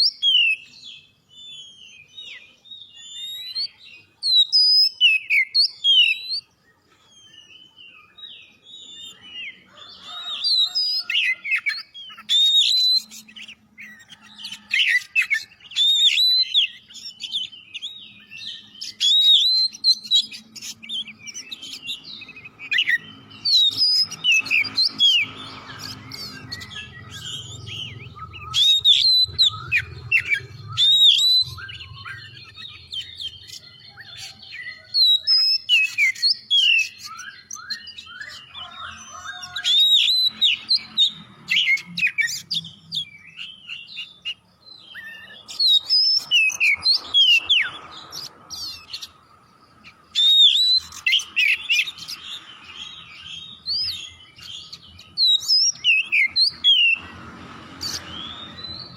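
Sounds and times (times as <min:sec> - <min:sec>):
bird singing whistles and chirps: 0:00.0 - 0:49.2, 0:49.8 - 0:57.2, 0:57.8 - 0:58.9.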